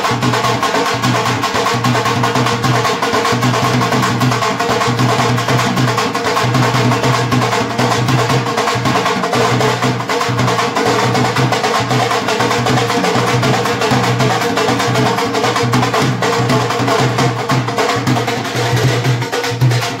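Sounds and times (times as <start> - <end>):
loud music with fast drumming: 0.0 - 20.0.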